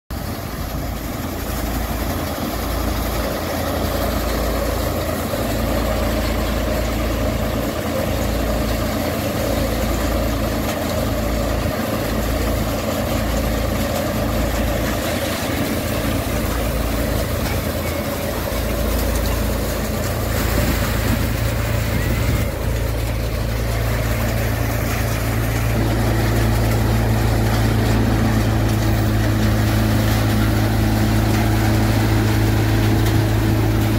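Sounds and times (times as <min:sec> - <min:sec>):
thresher machine drone: 0:00.1 - 0:33.9.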